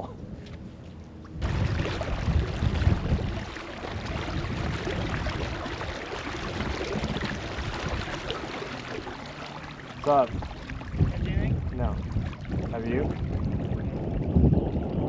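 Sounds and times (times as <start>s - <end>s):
choppy water: 0.0s - 15.0s
wind buffeting microphone: 1.4s - 15.0s.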